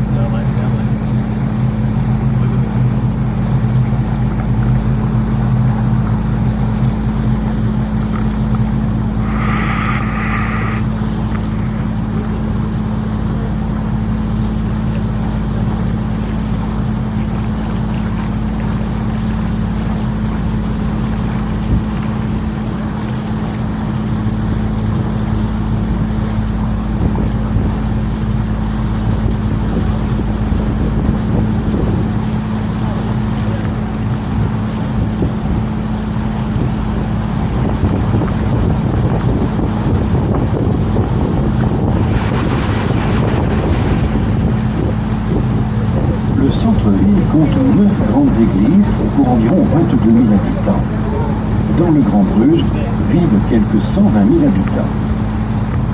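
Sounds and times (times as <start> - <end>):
boat motor humming: 0.0 - 55.9
water noise: 0.0 - 55.9
wind: 0.0 - 55.9.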